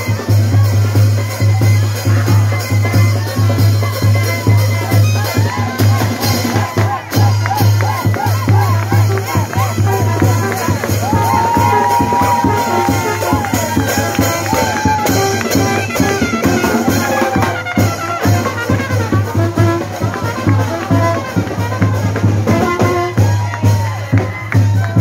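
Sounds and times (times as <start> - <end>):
trombone: 0.0 - 24.1
bass drum beat: 0.0 - 25.0
marching brass band playing: 0.0 - 25.0.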